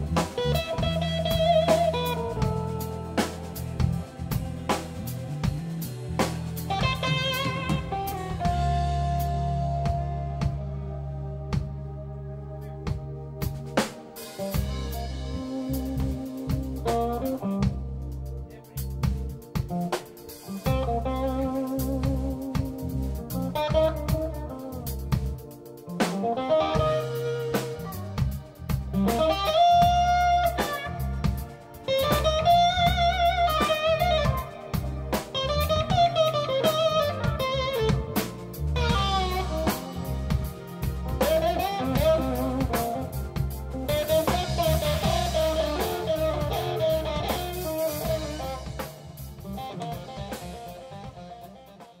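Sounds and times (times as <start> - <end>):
blues electric guitar with band: 0.0 - 52.0.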